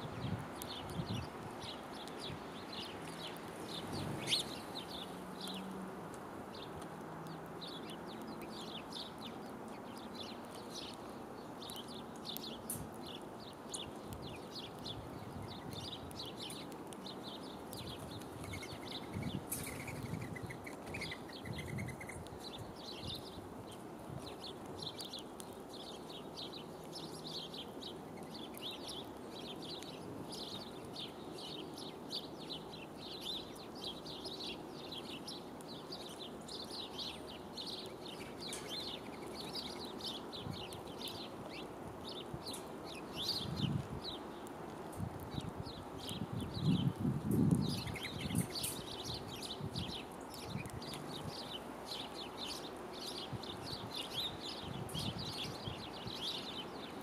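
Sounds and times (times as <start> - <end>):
low background noise: 0.0 - 57.0
small birds chirping: 0.0 - 57.0.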